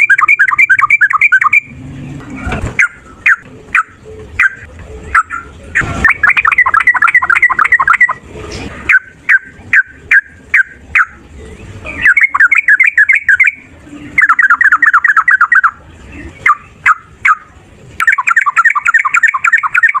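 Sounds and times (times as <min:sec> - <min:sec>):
bulbul singing trills: 0:00.0 - 0:01.8, 0:02.8 - 0:08.2, 0:08.9 - 0:20.0.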